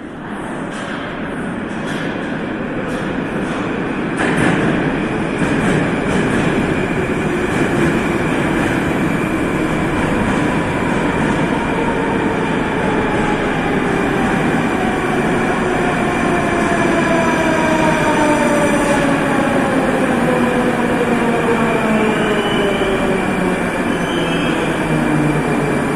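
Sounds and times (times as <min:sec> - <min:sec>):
train rolling alongside platform: 0:00.0 - 0:25.9.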